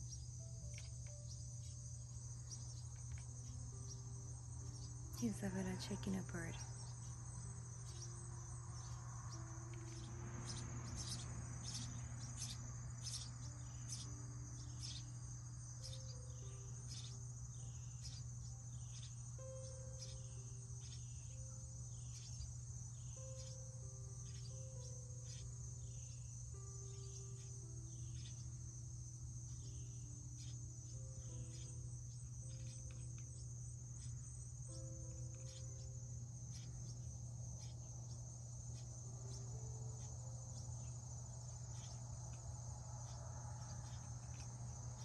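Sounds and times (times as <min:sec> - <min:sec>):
faint soft background music: 0:00.0 - 0:45.0
high falling chirps: 0:00.0 - 0:45.0
insects chirring: 0:00.0 - 0:45.0
low steady hum: 0:00.0 - 0:45.0.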